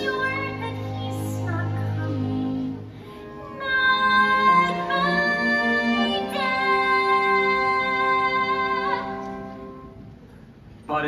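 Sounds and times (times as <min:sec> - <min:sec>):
orchestra playing held chords: 0:00.0 - 0:10.2.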